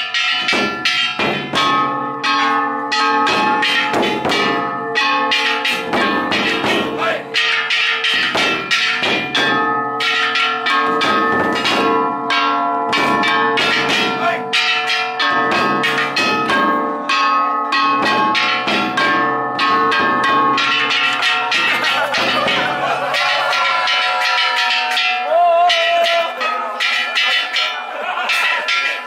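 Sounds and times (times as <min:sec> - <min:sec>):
gongs clanging: 0:00.0 - 0:29.0
big drum beats: 0:00.2 - 0:02.4, 0:03.2 - 0:12.2, 0:12.9 - 0:16.8, 0:17.7 - 0:27.7.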